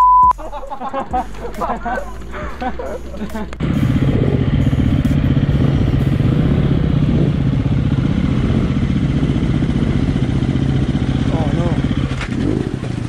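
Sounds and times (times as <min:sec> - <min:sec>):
dirt bike engine idling: 0:01.0 - 0:13.0.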